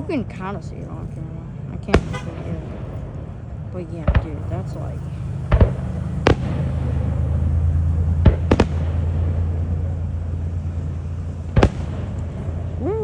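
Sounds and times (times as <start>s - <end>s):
fireworks bangs: 0.0s - 13.0s
steady low rumble: 0.0s - 13.0s.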